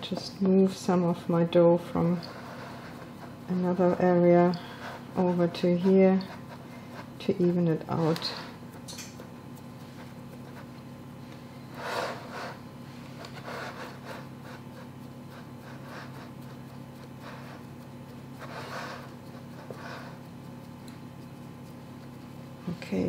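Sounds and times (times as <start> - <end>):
hands rubbing dough: 0.0 - 23.0
steady low hum: 0.0 - 23.0.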